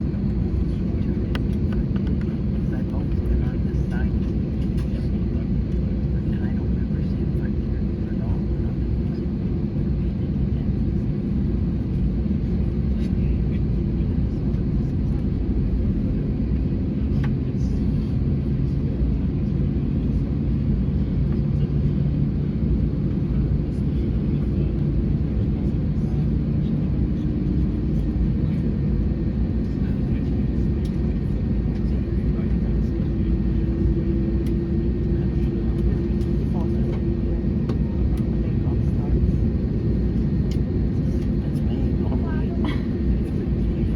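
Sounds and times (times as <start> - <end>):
aircraft cabin rumble and hum: 0.0 - 43.9.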